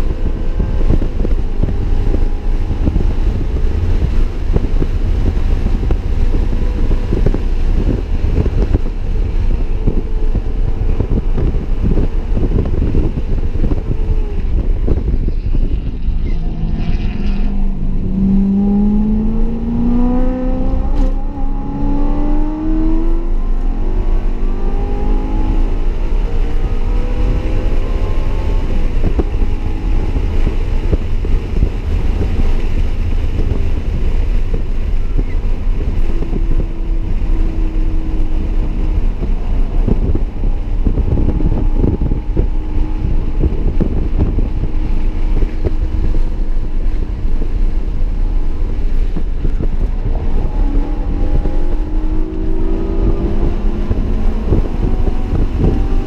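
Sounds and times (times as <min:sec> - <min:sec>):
car engine accelerating: 0:00.0 - 0:56.0
road and wind rumble: 0:00.0 - 0:56.0.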